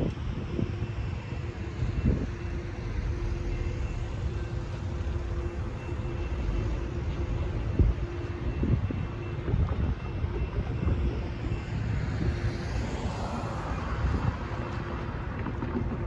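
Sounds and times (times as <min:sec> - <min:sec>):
faint steady hum: 0:00.0 - 0:16.0
train rumbling at low speed: 0:00.0 - 0:16.0.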